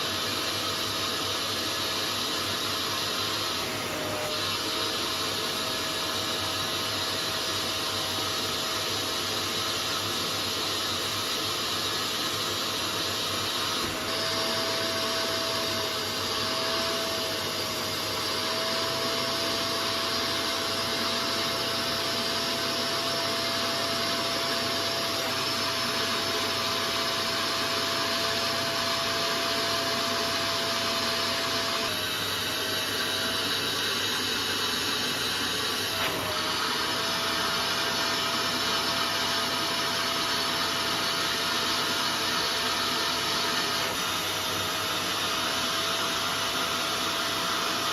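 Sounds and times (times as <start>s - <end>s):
cleaning machine motor whine: 0.0s - 47.9s.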